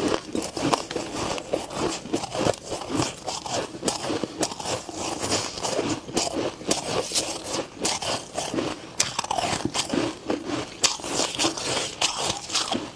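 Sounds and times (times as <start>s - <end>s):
person chewing crunchy frost: 0.0s - 12.9s.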